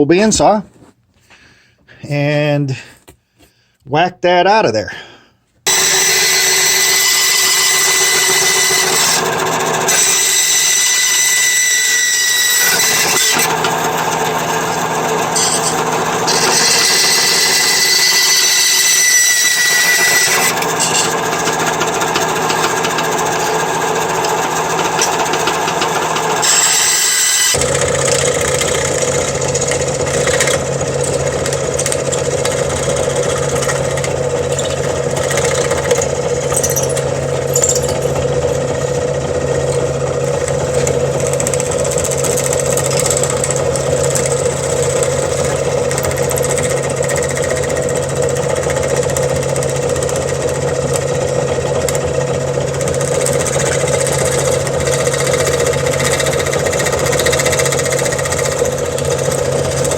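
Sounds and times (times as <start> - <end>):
bandsaw cutting plastic sheet: 5.7 - 59.9.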